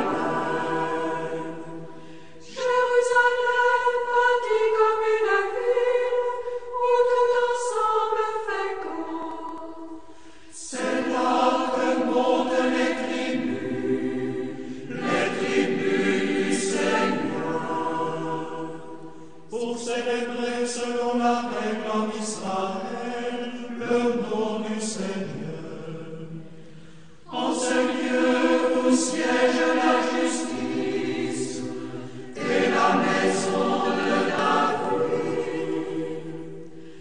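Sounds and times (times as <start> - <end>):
choir singing a slow chant: 0.0 - 37.0.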